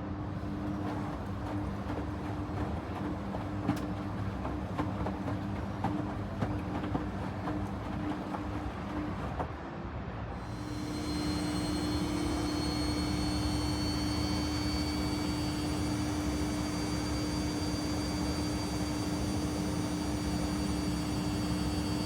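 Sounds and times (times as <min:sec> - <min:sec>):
washing machine spinning: 0:00.0 - 0:09.6, 0:10.4 - 0:22.0.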